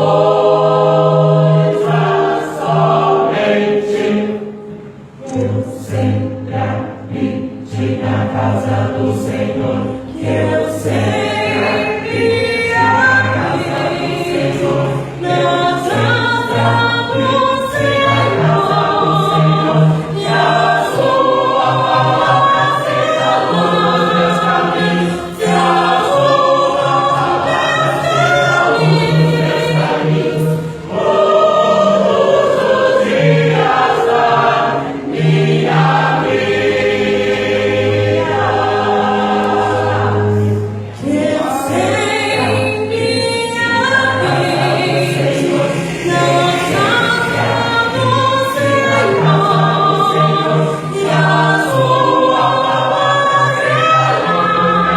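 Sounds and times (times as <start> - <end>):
choir singing gospel: 0.0 - 54.9.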